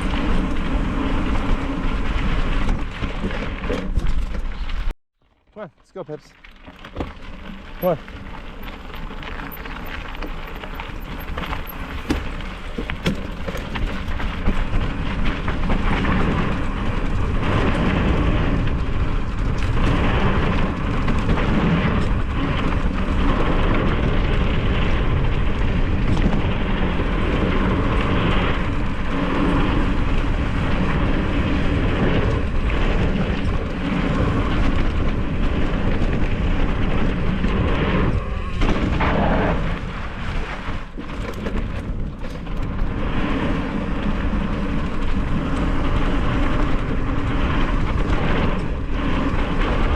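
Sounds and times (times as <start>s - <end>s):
bike rattling on dirt trail: 0.0s - 49.9s
wind buffeting microphone: 6.9s - 49.9s.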